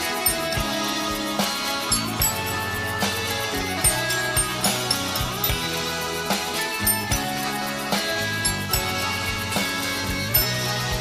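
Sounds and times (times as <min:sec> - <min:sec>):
bass line: 0:00.0 - 0:11.0.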